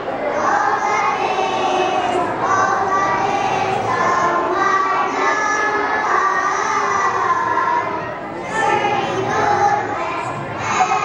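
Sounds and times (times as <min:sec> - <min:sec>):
children singing in unison: 0:00.0 - 0:11.0.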